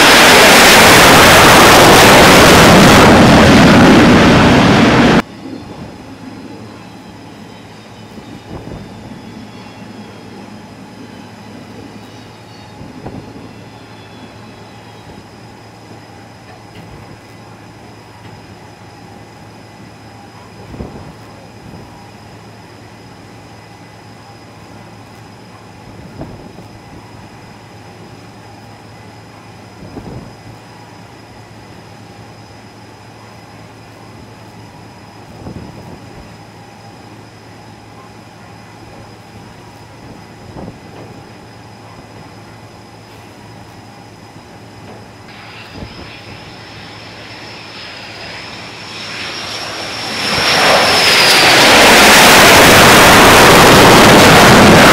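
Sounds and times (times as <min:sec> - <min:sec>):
mechanical hum with high whine: 0:00.0 - 0:54.9.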